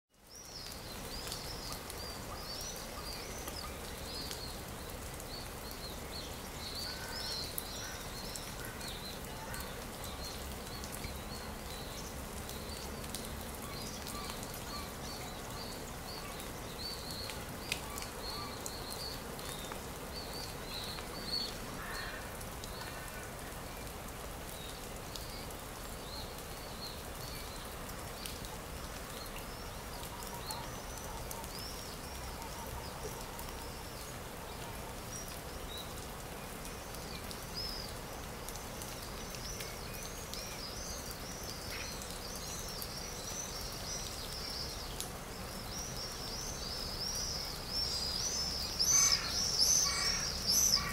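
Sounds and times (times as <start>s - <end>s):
small birds chirping: 0.1s - 50.9s
low steady background hiss: 0.2s - 50.9s.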